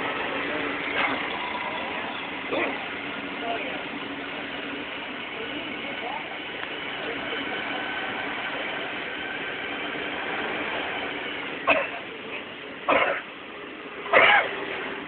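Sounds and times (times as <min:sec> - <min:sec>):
bus engine running: 0:00.0 - 0:15.0
wind and road noise: 0:00.0 - 0:15.0.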